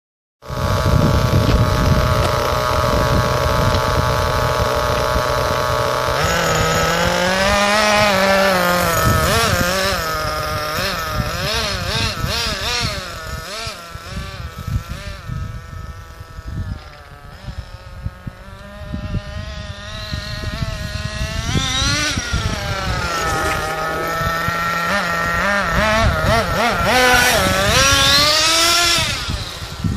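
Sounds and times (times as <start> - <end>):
rc truck engine revving: 0.4 - 29.9.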